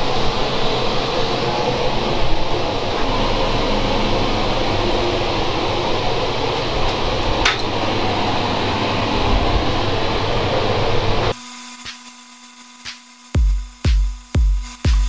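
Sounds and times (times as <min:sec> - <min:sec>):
ventilation fans rushing air: 0:00.0 - 0:15.0.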